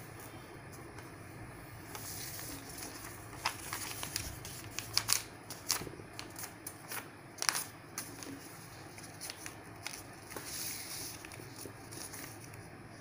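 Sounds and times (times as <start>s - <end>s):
paper rustling and crinkling: 1.9s - 13.0s.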